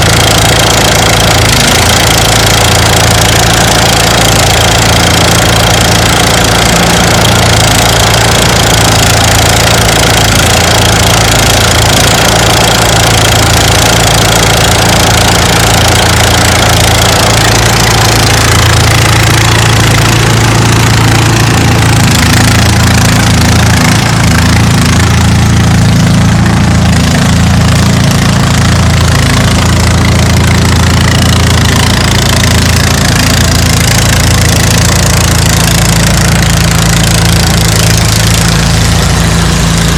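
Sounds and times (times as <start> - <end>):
thresher engine hum: 0.0 - 39.9.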